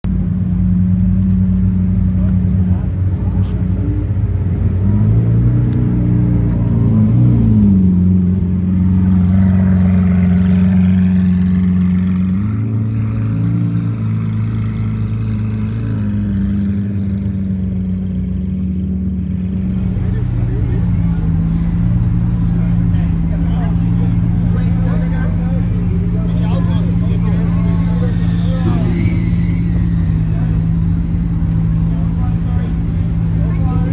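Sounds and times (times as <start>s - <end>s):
car engine droning at low revs: 0.0s - 33.9s.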